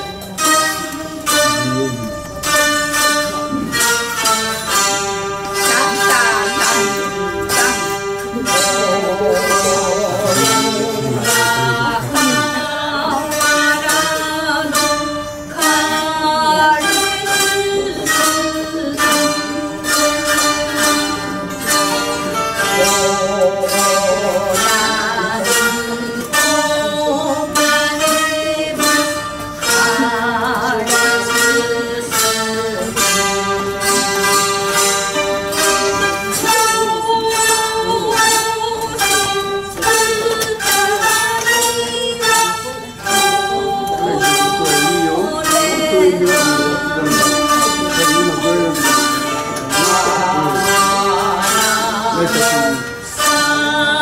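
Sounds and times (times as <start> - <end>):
person singing: 0.0 - 2.6, 5.5 - 35.0, 35.6 - 54.0
plucked string ensemble: 0.0 - 54.0.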